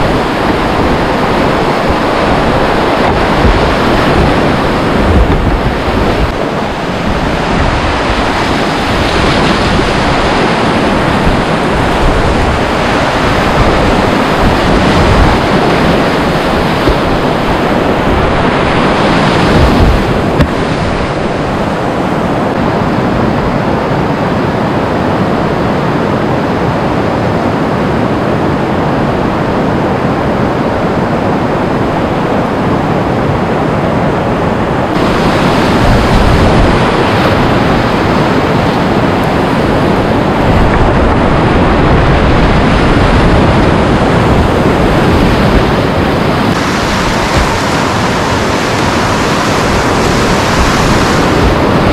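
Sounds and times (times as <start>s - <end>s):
whitewater rushing: 0.0s - 51.9s.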